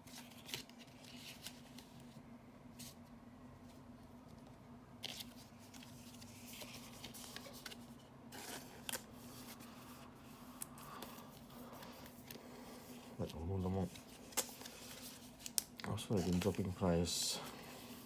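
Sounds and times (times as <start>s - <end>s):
trading cards rustling and clicking: 0.0s - 2.1s, 4.3s - 18.0s.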